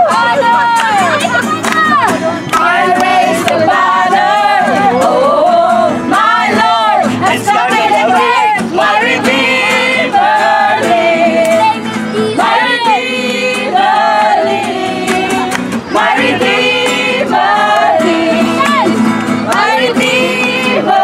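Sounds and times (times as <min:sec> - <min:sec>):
group singing: 0:00.0 - 0:21.0
strummed acoustic guitar: 0:00.0 - 0:21.0.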